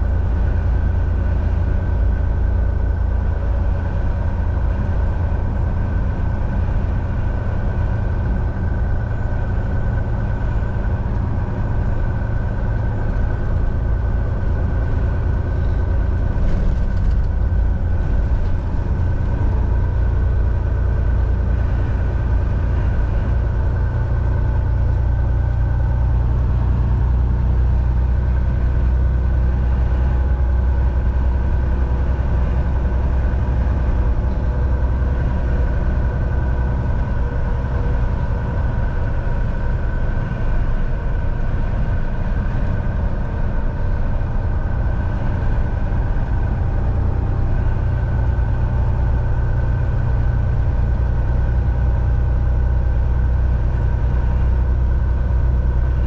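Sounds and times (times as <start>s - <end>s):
road rumble: 0.0s - 56.0s
truck engine drone: 0.0s - 56.0s.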